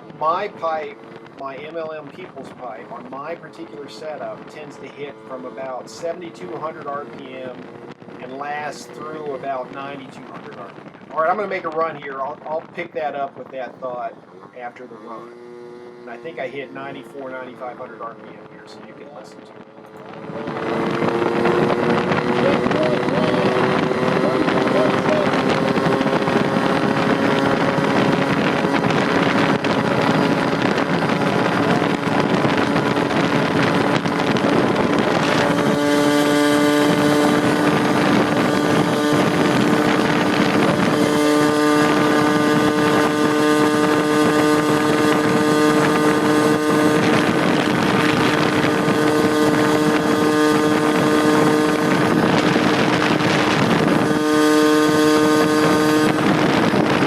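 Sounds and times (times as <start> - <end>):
scooter engine revving high: 0.0 - 12.6, 13.9 - 57.0
wind over microphone: 0.0 - 57.0.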